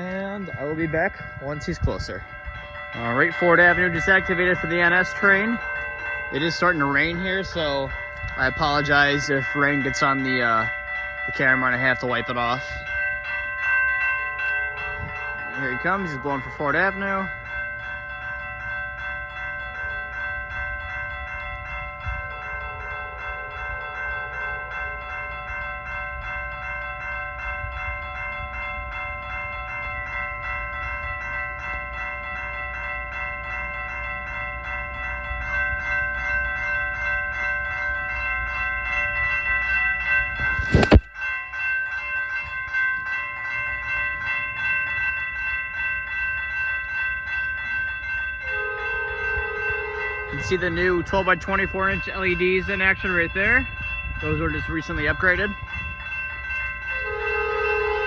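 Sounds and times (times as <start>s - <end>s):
grade crossing bells ringing: 0.0s - 58.0s
train rumble: 0.0s - 58.0s.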